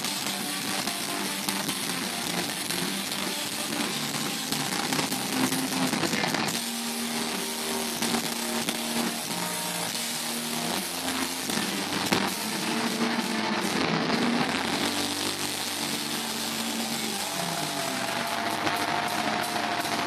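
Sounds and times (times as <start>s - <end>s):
heavy rock band playing live: 0.0s - 20.0s.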